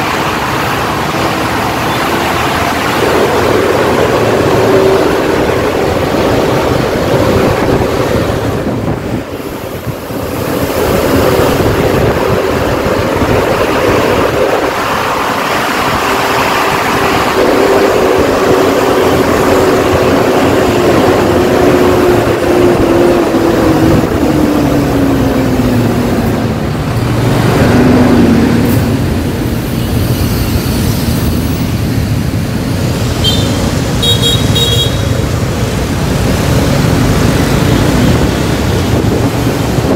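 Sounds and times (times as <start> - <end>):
wind buffeting microphone: 0.0 - 29.7, 35.2 - 39.9
road traffic: 0.0 - 39.9
vehicle engine hum: 0.0 - 39.9.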